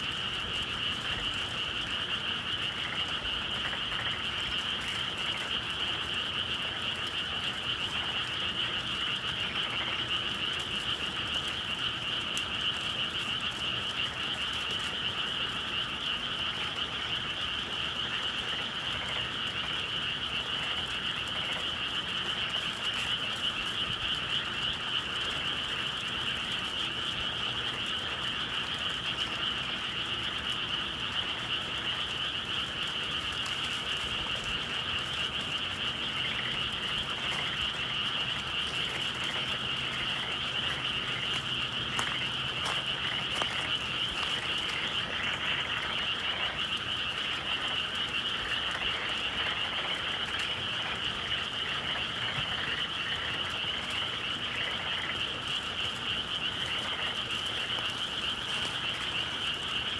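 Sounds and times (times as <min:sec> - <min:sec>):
frogs calling in chorus: 0:00.0 - 0:59.9.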